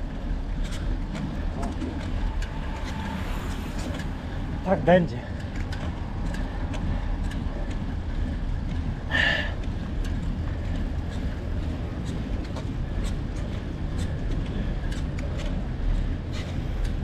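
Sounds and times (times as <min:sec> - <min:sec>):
road noise: 0:00.0 - 0:17.0
wind rumble: 0:00.0 - 0:17.0.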